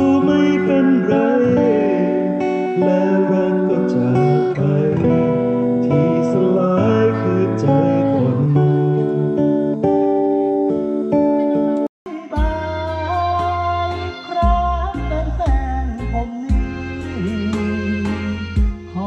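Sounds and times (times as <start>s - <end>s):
person singing: 0.0s - 10.4s, 11.5s - 19.0s
acoustic guitar strumming: 0.0s - 19.0s.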